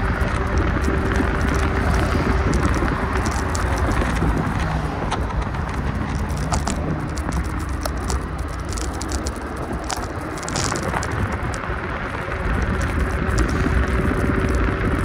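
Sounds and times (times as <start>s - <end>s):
small rattles and clicks: 0.0s - 15.0s
vehicle road noise: 0.0s - 15.0s.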